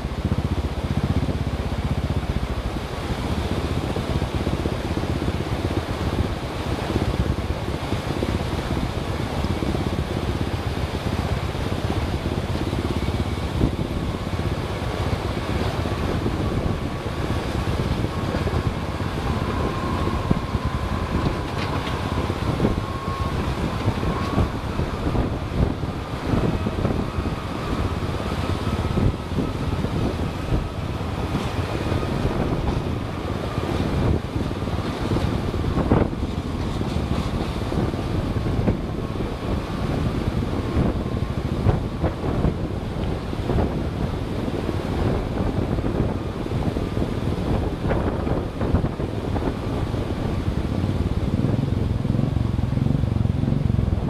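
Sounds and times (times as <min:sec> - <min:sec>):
vehicle driving on rough road: 0:00.0 - 0:54.0
wind noise on microphone: 0:00.0 - 0:54.0.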